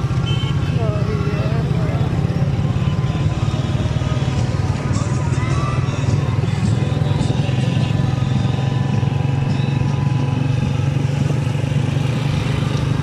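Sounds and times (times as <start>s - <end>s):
vehicle engine droning: 0.0s - 13.0s
wind and road noise: 0.0s - 13.0s.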